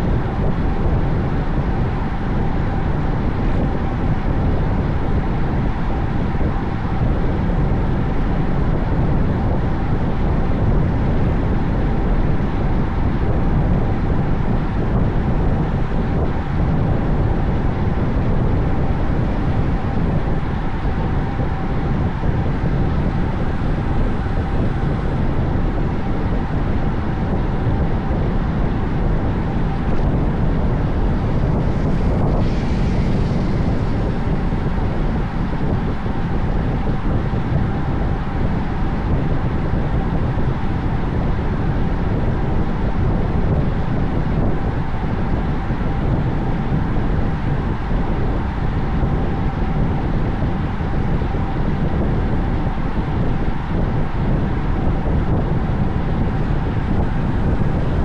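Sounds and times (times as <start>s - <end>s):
faint steady whine: 0.0s - 58.0s
wind rush on microphone: 0.0s - 58.0s.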